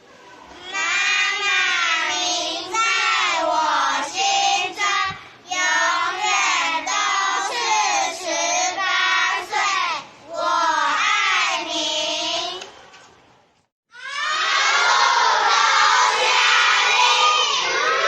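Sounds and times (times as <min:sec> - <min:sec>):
children singing: 0:00.6 - 0:12.7, 0:14.0 - 0:18.0.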